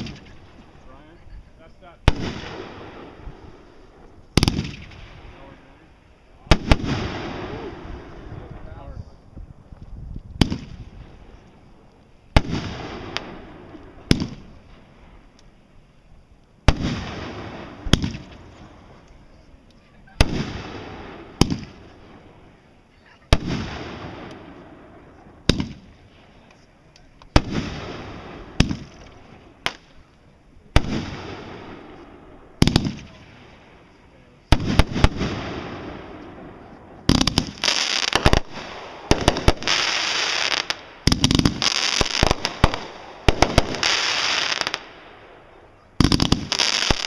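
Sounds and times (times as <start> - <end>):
fireworks banging: 0.0 - 15.6, 16.6 - 47.0
rumble after fireworks: 0.0 - 47.0.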